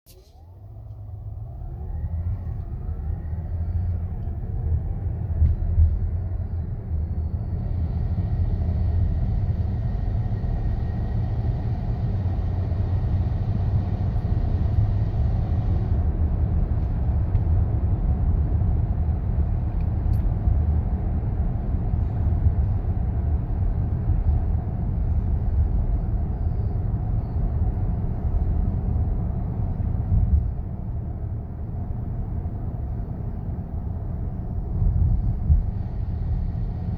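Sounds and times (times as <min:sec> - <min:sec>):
low grinding rumble: 0:00.4 - 0:36.9.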